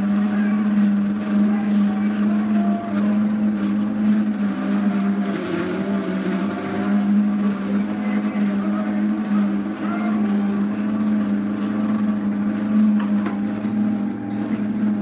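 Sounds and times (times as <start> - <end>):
juicer motor humming: 0.0 - 15.0.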